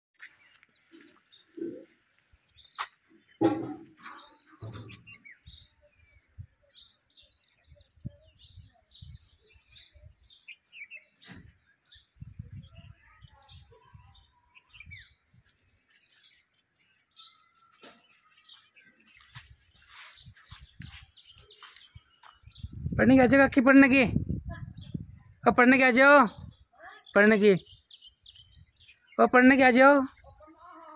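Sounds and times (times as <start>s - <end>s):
small birds chirping: 0.2s - 30.9s.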